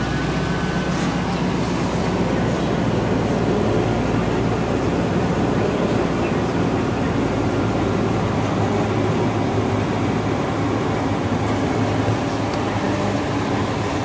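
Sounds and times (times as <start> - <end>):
pickup engine idling: 0.0 - 14.0.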